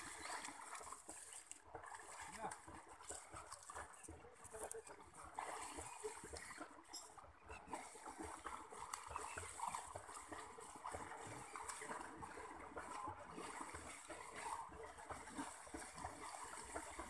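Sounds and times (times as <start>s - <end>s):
pond water splashing: 0.0s - 17.0s.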